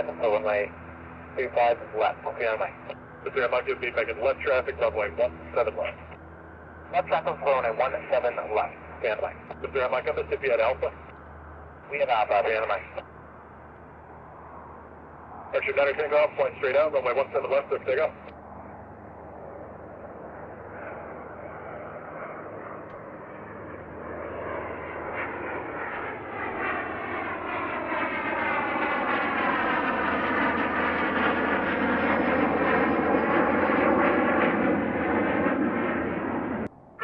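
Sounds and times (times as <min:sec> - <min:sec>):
aircraft engines taking off: 0:00.0 - 0:37.0.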